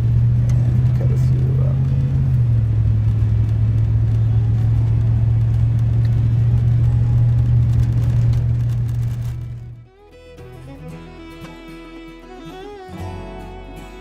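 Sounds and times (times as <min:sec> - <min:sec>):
motor low drone: 0:00.0 - 0:14.0.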